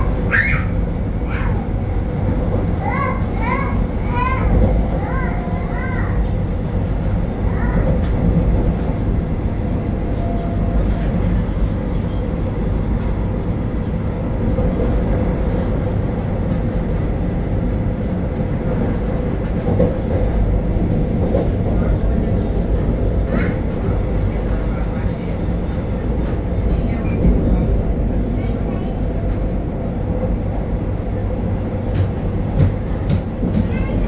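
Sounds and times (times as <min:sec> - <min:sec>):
rumble of wheels on rail: 0:00.0 - 0:34.0.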